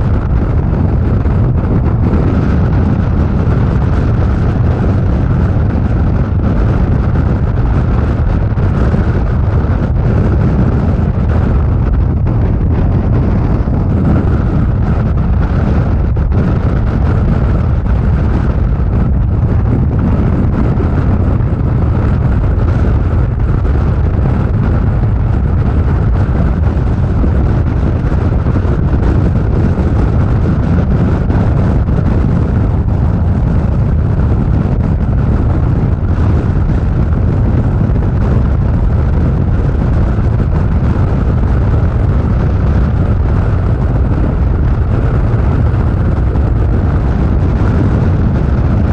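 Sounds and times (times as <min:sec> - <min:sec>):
motorcycle engine rumble: 0:00.0 - 0:48.9
wind rushing over microphone: 0:00.0 - 0:48.9.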